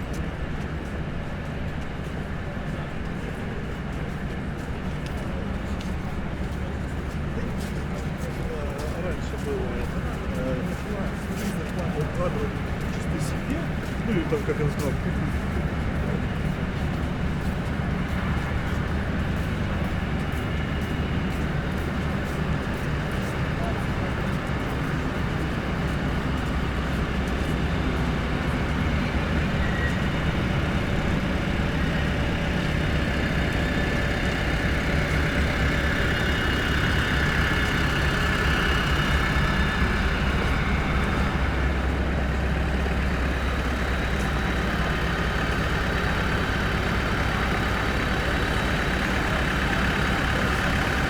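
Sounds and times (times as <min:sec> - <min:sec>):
low engine hum: 0:00.0 - 0:51.0
street noise: 0:00.0 - 0:51.0.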